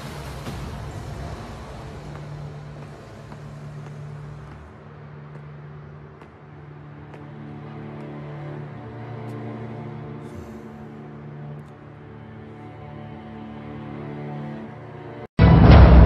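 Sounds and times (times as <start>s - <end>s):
low music drone: 0.0s - 16.0s.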